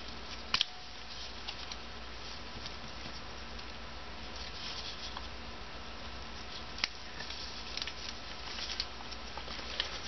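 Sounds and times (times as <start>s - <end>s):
gloved hands rubbing and rustling: 0.0s - 5.4s, 6.3s - 10.0s
steady low hum: 0.0s - 10.0s.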